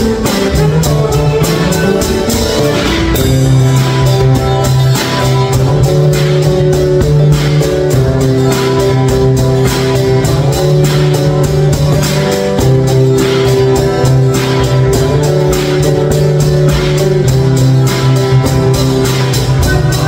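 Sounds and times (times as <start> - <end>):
acoustic guitars strumming: 0.0 - 20.0
drum kit beat: 0.0 - 20.0.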